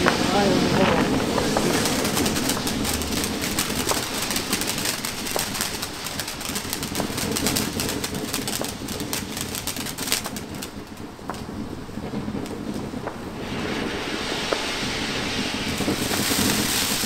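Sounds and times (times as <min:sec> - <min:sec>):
firework fountains fizzing: 0:00.0 - 0:17.0
sharp firework cracks: 0:00.0 - 0:17.0.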